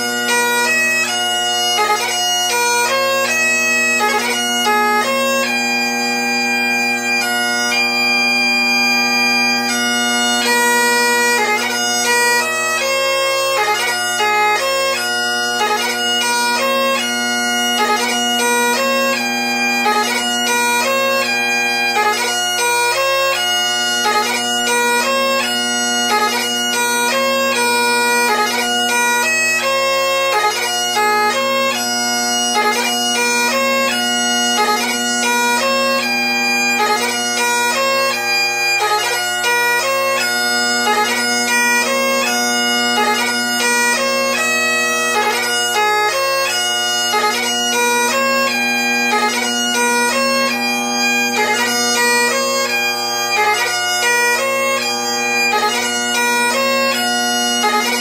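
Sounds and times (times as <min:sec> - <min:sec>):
bagpipe drone: 0:00.0 - 0:58.0
bagpipe melody: 0:00.0 - 0:58.0.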